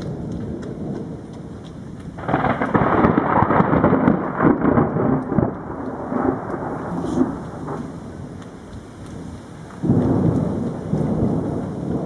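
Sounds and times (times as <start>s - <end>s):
thunder rumbling and crackling: 0.0s - 12.0s.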